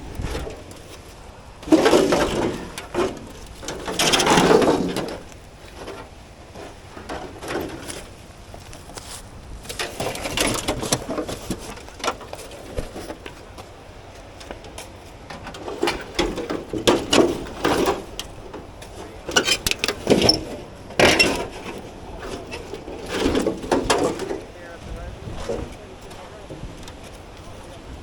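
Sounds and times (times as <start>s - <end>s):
debris knocking and clattering: 1.6s - 8.9s, 9.6s - 13.7s, 14.3s - 28.0s.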